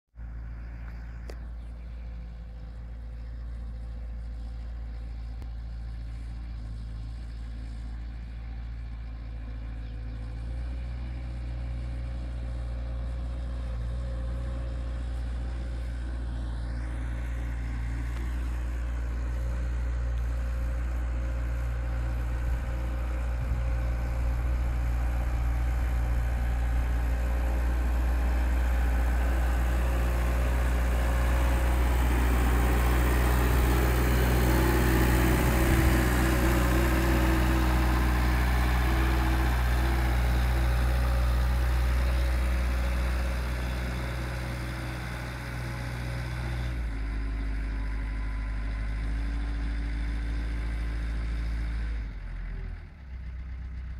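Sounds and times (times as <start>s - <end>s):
wheel loader diesel engine: 0.1s - 53.9s.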